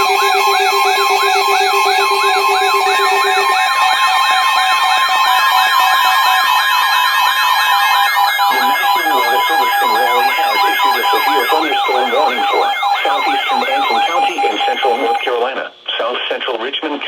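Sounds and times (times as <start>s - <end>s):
electronic yelp sirens: 0.0s - 15.4s
higher-pitched sweeping siren: 0.0s - 15.4s
steady alert tones: 0.0s - 15.4s.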